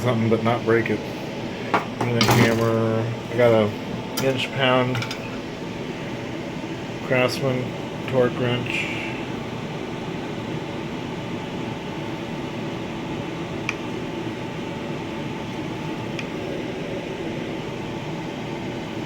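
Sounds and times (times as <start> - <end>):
ventilation fan hum: 0.0 - 19.0.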